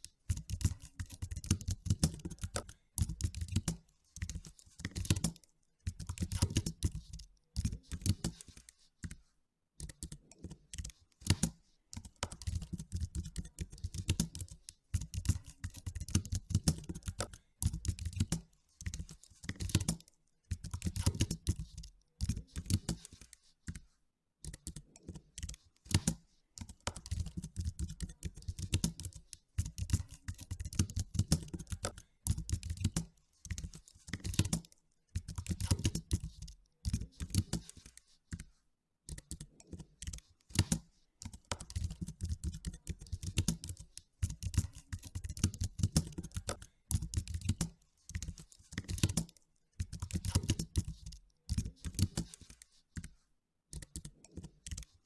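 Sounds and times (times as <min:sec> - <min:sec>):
typing on computer keyboard: 0:00.0 - 0:55.0.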